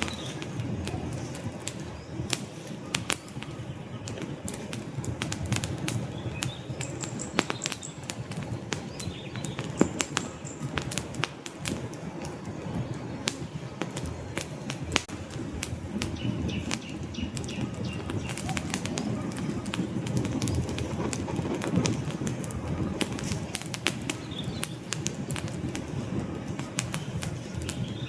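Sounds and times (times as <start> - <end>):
low rush of burning logs: 0.0 - 28.0
wood fire crackling: 0.0 - 28.0.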